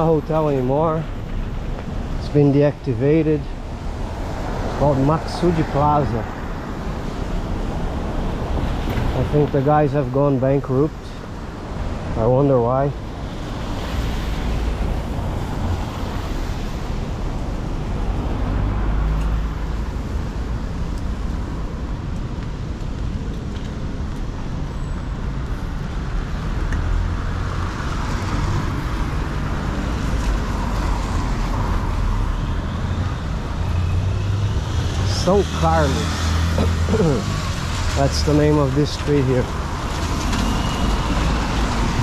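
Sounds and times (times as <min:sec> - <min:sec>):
passing vehicles: 0:00.0 - 0:42.0
rumble of cars: 0:00.0 - 0:42.0.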